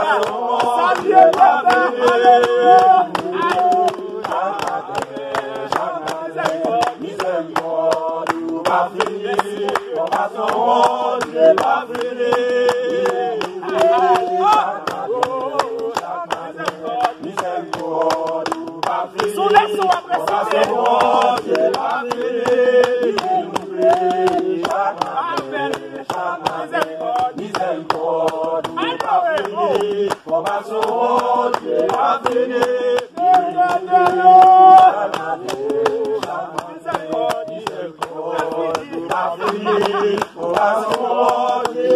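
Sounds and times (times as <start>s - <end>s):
group singing a worship song: 0.0s - 41.9s
hand clapping: 0.0s - 41.9s.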